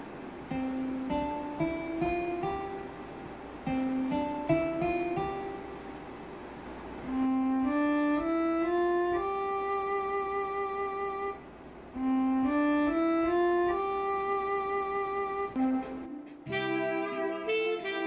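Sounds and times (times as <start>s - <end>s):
keyboard playing rising scale: 0.0s - 6.3s, 6.9s - 18.0s.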